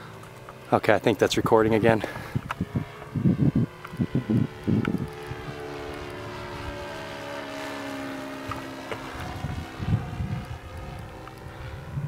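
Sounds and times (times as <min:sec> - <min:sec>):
model plane propeller drone: 0:00.0 - 0:12.0.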